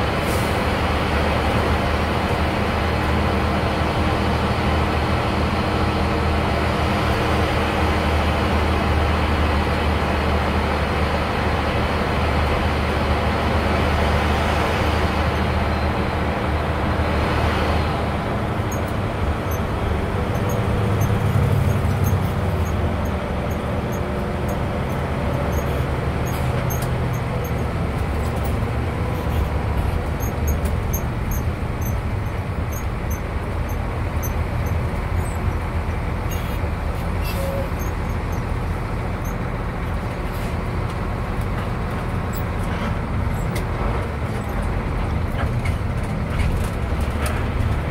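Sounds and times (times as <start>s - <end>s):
bus engine drone: 0.0s - 47.9s
road rumble: 0.0s - 47.9s.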